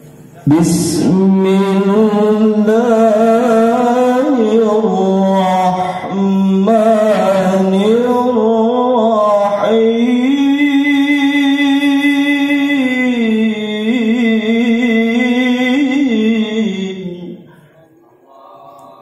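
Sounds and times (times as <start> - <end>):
man chanting over loudspeaker: 0.3 - 19.0.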